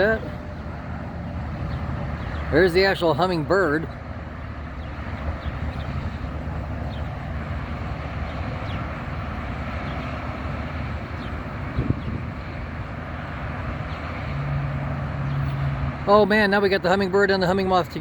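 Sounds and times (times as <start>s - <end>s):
distant road traffic: 0.0s - 18.0s.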